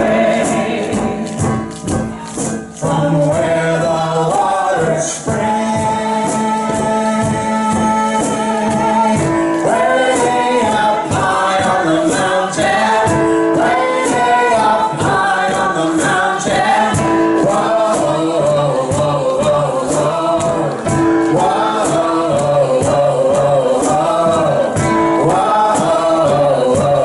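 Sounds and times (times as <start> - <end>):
group of voices singing: 0.0 - 27.0
percussion beat: 0.0 - 27.0.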